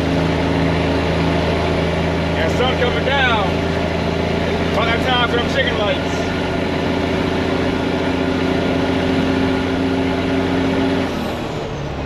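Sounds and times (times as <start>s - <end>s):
diesel truck engine: 0.0s - 12.0s.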